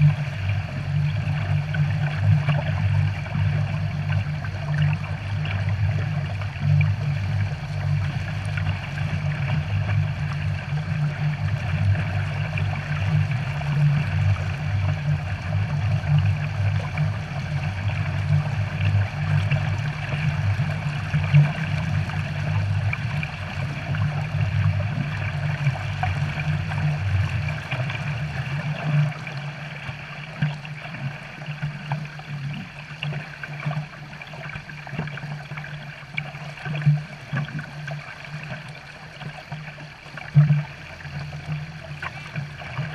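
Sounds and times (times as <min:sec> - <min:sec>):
water churning and splashing: 0:00.0 - 0:42.9.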